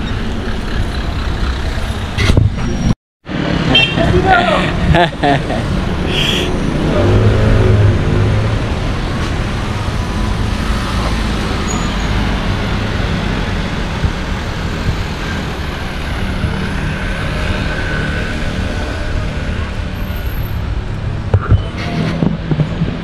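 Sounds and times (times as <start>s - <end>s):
road rumble: 0.0s - 23.0s
cars driving past: 3.3s - 23.0s.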